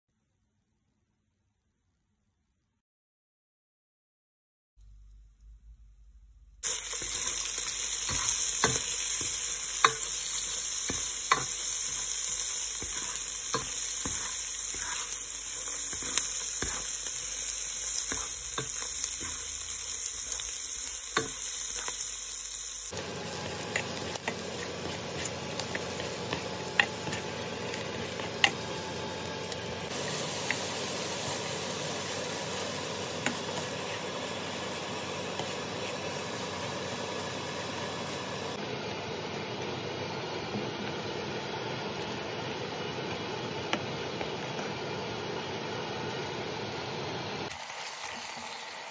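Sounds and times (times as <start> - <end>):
oil sizzling in a pot: 6.6 - 48.9.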